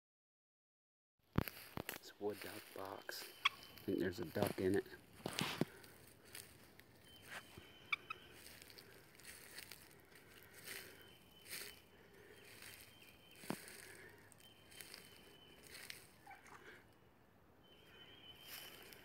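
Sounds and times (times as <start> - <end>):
footsteps crunching through leaves: 1.3 - 16.3, 18.0 - 19.0.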